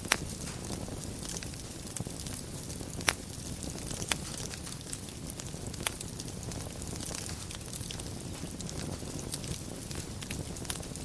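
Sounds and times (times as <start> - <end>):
wood fire burning: 0.0 - 11.0.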